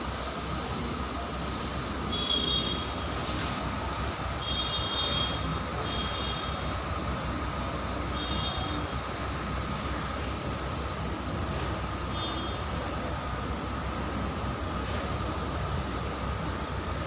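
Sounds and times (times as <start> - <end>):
constant high whine: 0.0 - 17.0
furnace burner and blower roar: 0.0 - 17.0.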